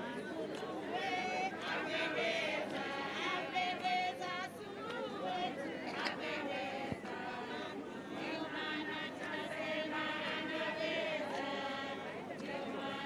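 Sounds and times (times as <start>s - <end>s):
women singing in chorus: 0.0s - 13.0s.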